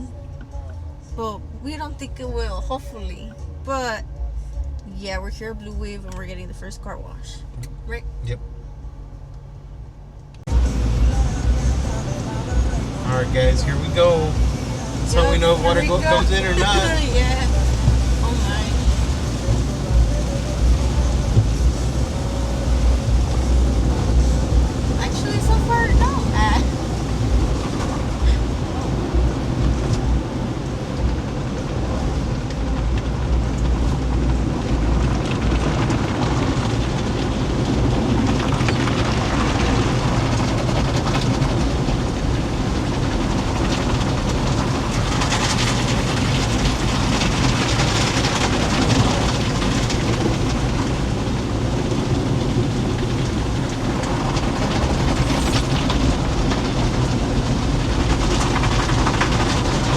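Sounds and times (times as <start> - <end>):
car wash water spray: 10.5 - 59.9.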